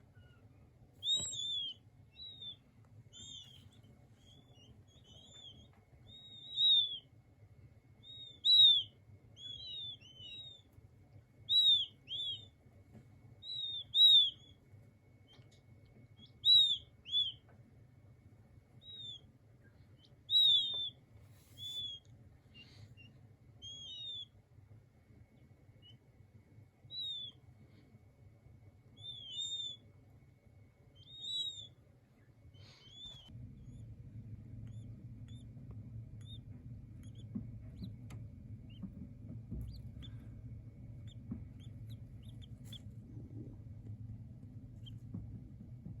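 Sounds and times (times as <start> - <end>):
quail chicks peeping: 0.0 - 7.2, 8.0 - 12.7, 13.3 - 17.6, 18.6 - 24.5, 26.9 - 27.5, 28.9 - 30.1, 30.9 - 46.0
faint low hum: 0.0 - 46.0.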